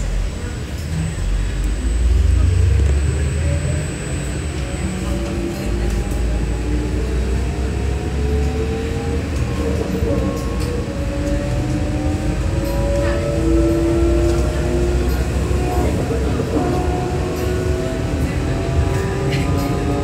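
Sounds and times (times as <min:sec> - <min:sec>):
electric drive whine: 0:00.0 - 0:20.0
low road rumble: 0:00.0 - 0:20.0.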